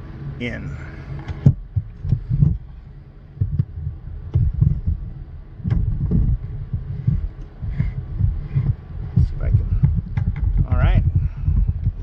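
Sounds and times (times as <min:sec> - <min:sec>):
low steady hum: 0:00.0 - 0:12.0
low thuds: 0:01.2 - 0:12.0.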